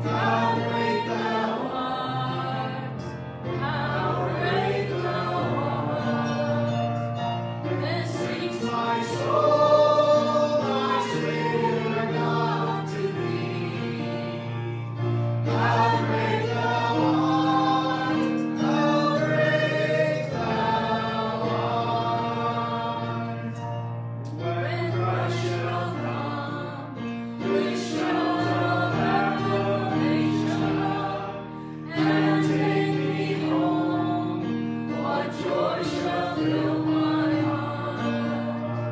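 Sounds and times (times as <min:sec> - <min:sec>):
choir singing worship music: 0:00.0 - 0:38.9.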